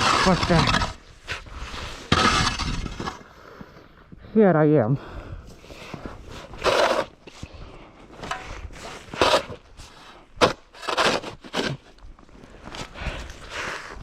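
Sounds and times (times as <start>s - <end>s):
shovel crunching and scraping snow: 0.0s - 3.8s, 5.5s - 14.0s.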